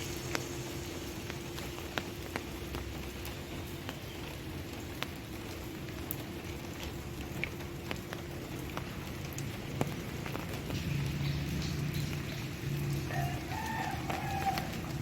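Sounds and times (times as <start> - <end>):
rain falling: 0.0 - 15.0
raindrops ticking close by: 0.0 - 15.0.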